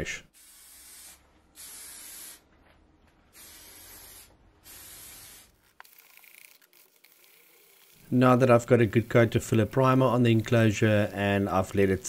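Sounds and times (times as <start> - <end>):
aerosol can spraying: 0.3 - 2.5, 3.3 - 12.0.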